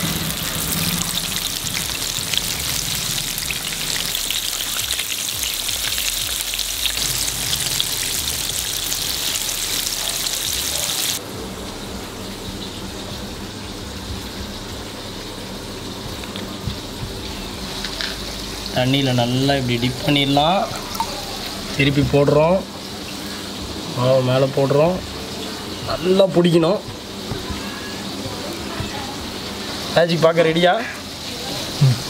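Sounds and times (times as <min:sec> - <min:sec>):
chicken deep-frying in hot oil: 0:00.0 - 0:32.0.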